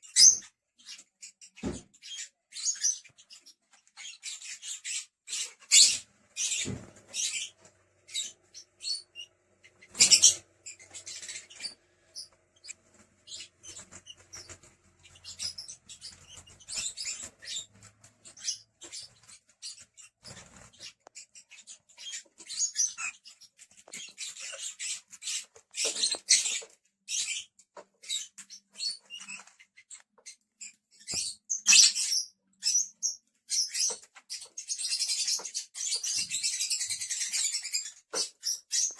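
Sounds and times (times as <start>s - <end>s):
lovebirds chirping and squeaking: 0.0s - 38.9s.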